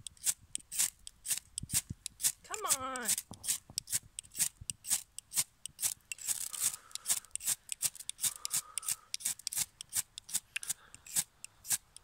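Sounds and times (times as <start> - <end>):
ferro rod scraped by striker: 0.0 - 12.0.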